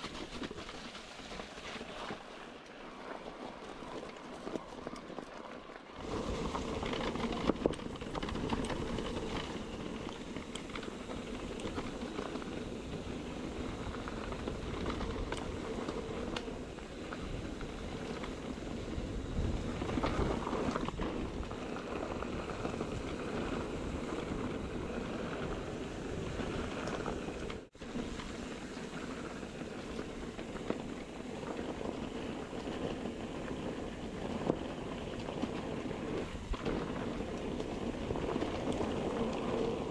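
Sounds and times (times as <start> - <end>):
tyres rushing on dirt trail: 0.0 - 39.9.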